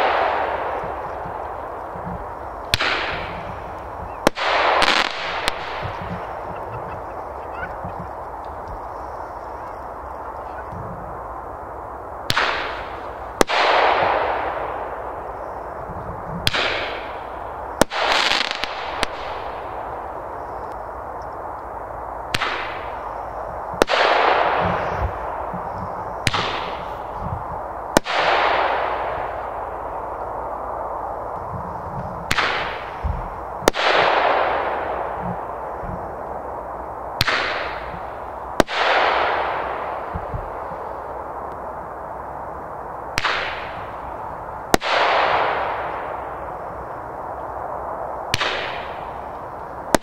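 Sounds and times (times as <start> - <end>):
roman candles firing: 0.0 - 11.6, 12.2 - 50.0
steady background noise: 0.0 - 50.0.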